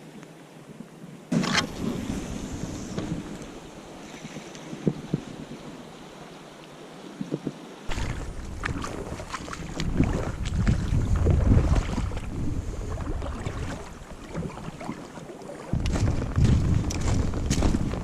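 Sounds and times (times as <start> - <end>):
gusty wind on microphone: 0.8 - 6.0, 7.1 - 18.0.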